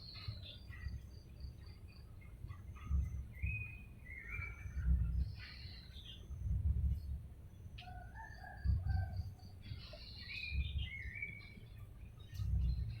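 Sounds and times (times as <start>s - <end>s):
chickens and birds chirping: 0.0s - 13.0s.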